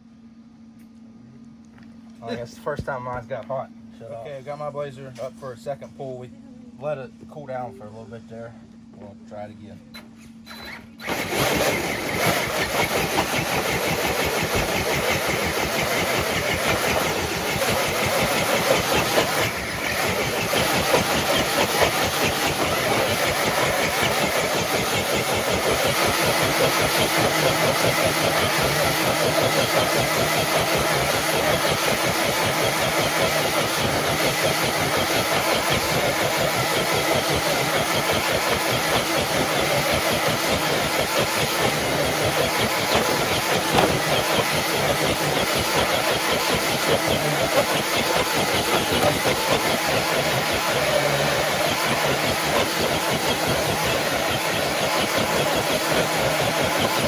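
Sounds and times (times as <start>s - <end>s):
rc truck motor and drivetrain: 10.0s - 57.0s.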